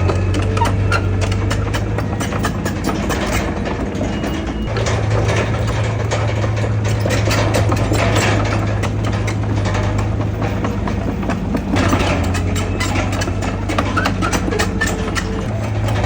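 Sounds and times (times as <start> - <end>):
bulldozer diesel engine humming: 0.0 - 16.0
sharp knocks and clatters: 0.0 - 16.0.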